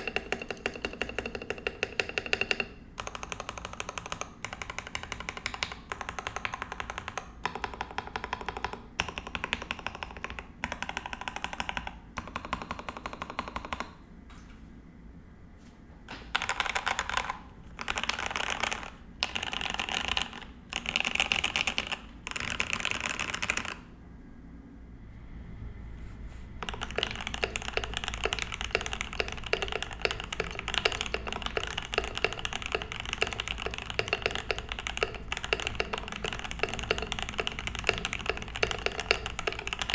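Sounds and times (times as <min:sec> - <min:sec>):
mechanical keyboard typing: 0:00.0 - 0:14.0, 0:16.1 - 0:23.9, 0:26.6 - 0:39.9.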